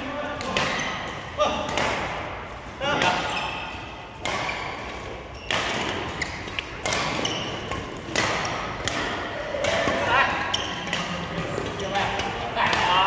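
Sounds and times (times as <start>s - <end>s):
rackets hitting shuttlecock: 0.1s - 13.0s
court shoes squeaking: 0.3s - 13.0s.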